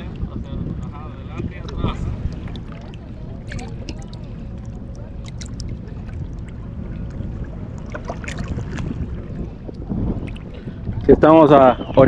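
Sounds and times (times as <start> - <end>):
steady low rumble: 0.0 - 12.0
water sloshing and splashing: 0.0 - 12.0.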